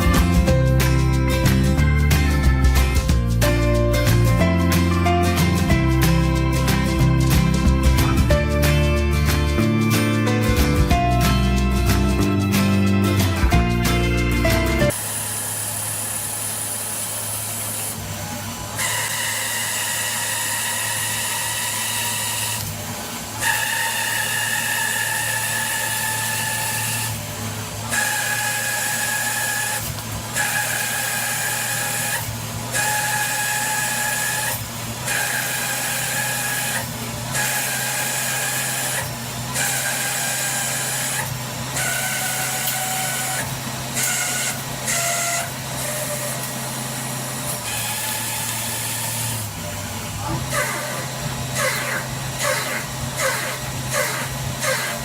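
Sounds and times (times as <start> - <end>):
milling machine whine: 0.0 - 55.0.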